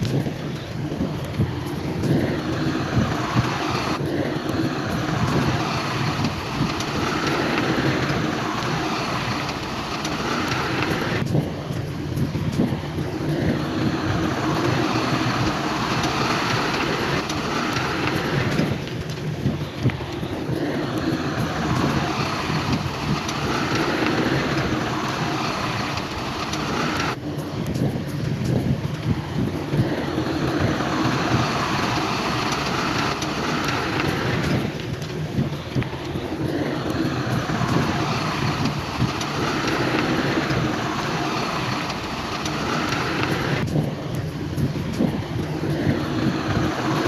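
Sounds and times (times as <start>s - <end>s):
diesel machinery engine rumble: 0.0s - 47.0s.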